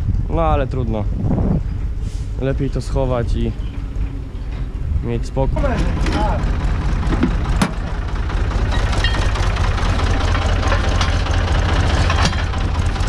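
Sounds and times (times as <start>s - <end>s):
tractor engine idling: 1.8s - 13.0s.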